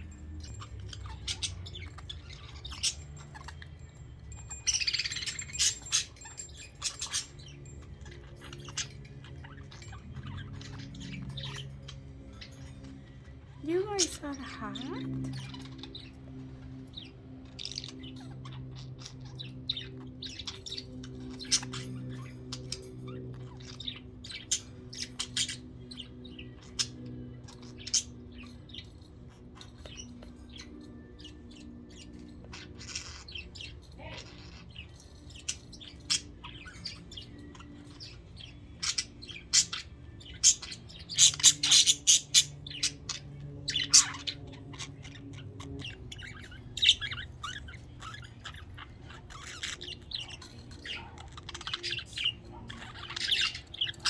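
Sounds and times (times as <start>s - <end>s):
budgerigars chirping: 0.0s - 54.0s
faint low hum: 0.0s - 54.0s.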